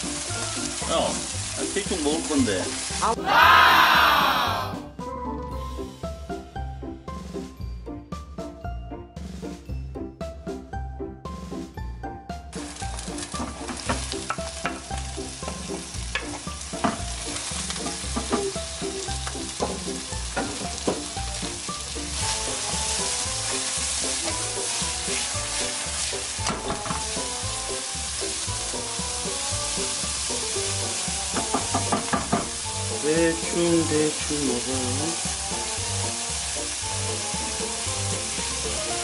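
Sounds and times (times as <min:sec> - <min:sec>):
food sizzling in a wok: 0:00.0 - 0:04.9, 0:12.4 - 0:39.0.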